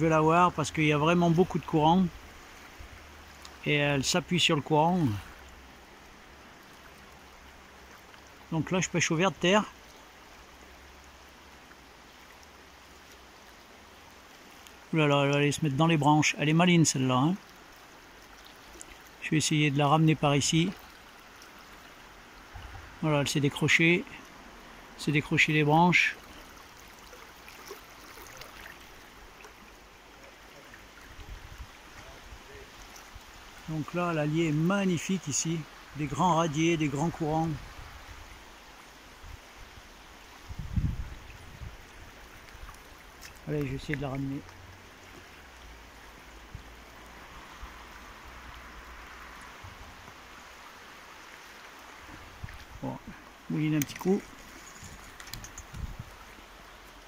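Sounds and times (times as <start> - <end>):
fast-flowing river: 0.0 - 57.0.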